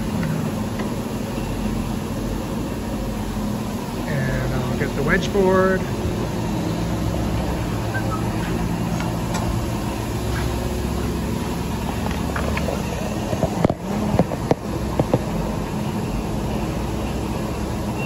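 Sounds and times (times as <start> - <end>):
shop machinery humming: 0.0 - 18.0.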